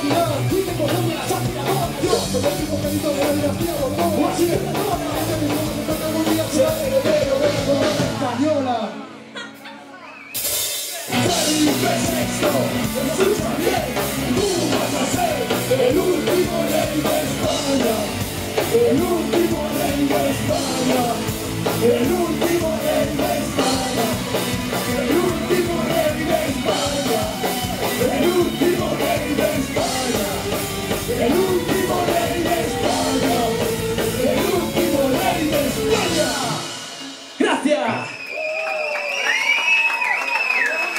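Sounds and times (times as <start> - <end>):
distorted electric guitars: 0.0 - 9.6, 10.5 - 38.2
person singing: 0.0 - 10.1, 11.0 - 37.2
drums: 0.0 - 40.9.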